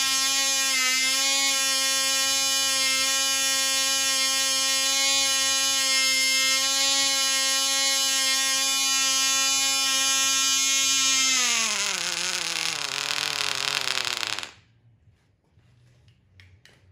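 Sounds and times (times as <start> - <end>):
model engine running high-pitched: 0.0 - 14.5.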